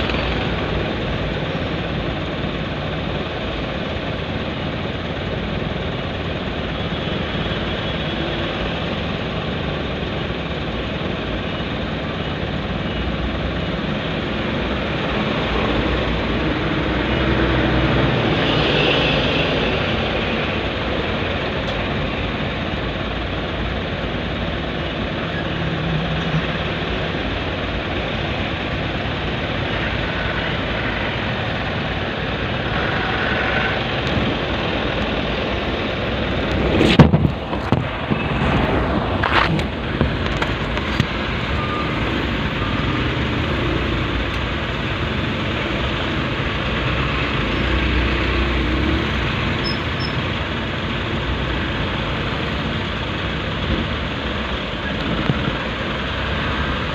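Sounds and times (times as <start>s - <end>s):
car engines idling: 0.0s - 56.9s
truck passing alongside: 0.0s - 56.9s.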